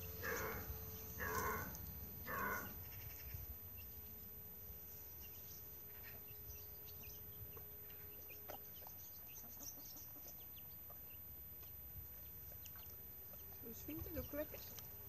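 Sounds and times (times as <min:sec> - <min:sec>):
chicks peeping: 0:00.0 - 0:04.1, 0:05.1 - 0:14.8.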